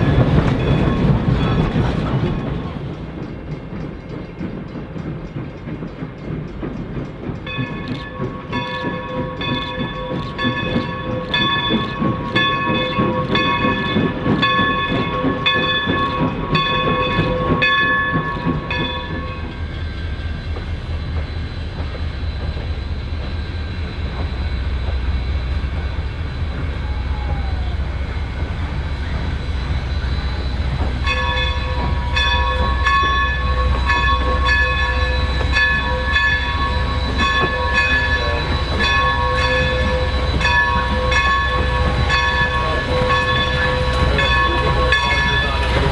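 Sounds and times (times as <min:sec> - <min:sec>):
locomotive bell ringing: 0:00.0 - 0:45.9
rumble of moving train: 0:00.0 - 0:45.9.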